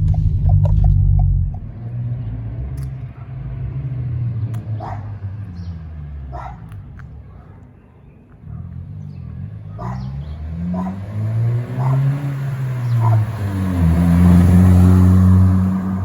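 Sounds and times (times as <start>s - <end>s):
car driving by: 0.0s - 6.4s, 8.8s - 16.0s.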